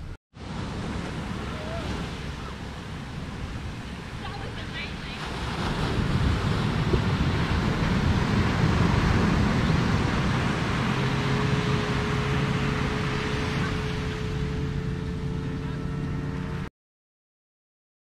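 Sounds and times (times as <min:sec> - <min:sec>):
wind buffeting microphone: 0:00.0 - 0:16.6
ocean surf breaking: 0:00.0 - 0:16.7.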